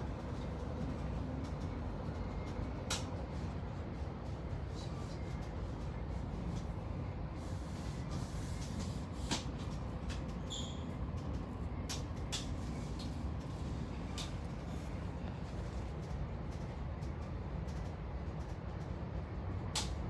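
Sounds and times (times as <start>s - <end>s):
train rumbling inside carriage: 0.0s - 20.0s.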